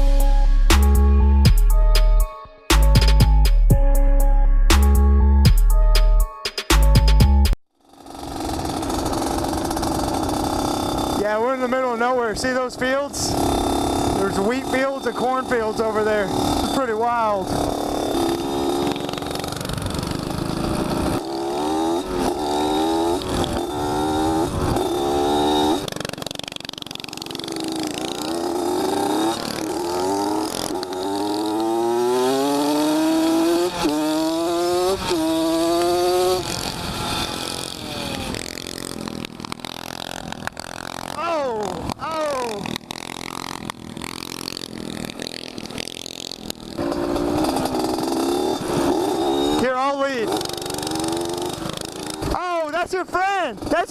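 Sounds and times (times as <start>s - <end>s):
small motorcycle engine revving: 7.7s - 53.9s.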